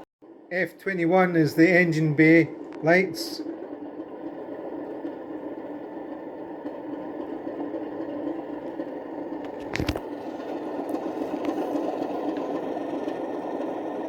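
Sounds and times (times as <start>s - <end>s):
diesel locomotive engine idling: 0.2s - 9.5s, 10.1s - 14.0s.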